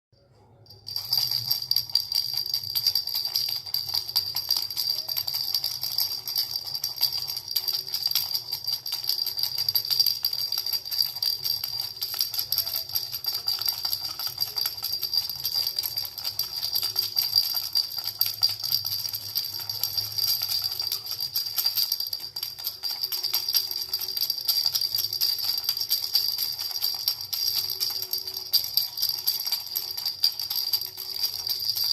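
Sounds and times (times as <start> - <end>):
rattle bells jingling: 0.3 - 31.9.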